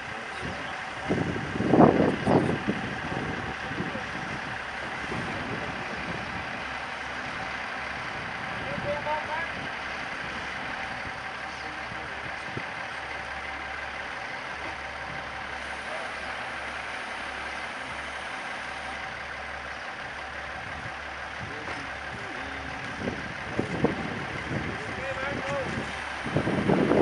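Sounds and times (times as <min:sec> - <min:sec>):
crane engines rumbling: 0:00.0 - 0:27.0
steady whine: 0:00.0 - 0:27.0.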